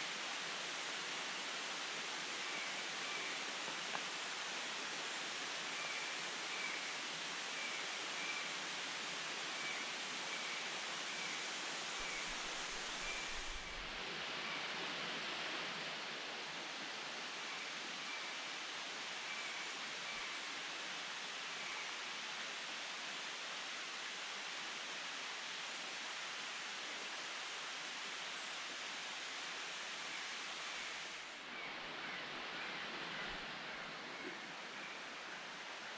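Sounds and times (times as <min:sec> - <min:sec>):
jungle ambience hiss: 0:00.0 - 0:35.9.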